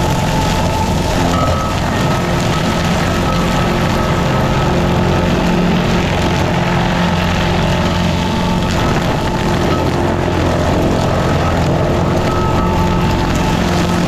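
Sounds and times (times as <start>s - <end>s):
cutter wheel grinding stump: 0.0s - 14.0s
stump grinder engine running: 0.0s - 14.0s.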